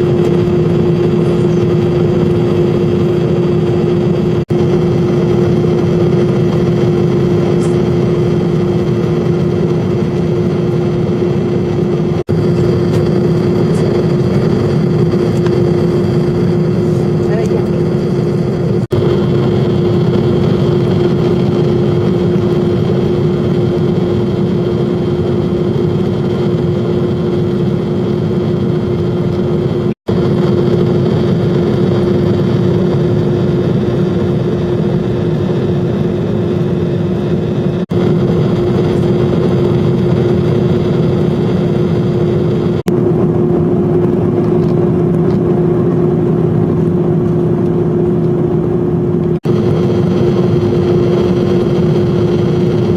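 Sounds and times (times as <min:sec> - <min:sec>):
jet engines droning in cabin: 0:00.0 - 0:52.9.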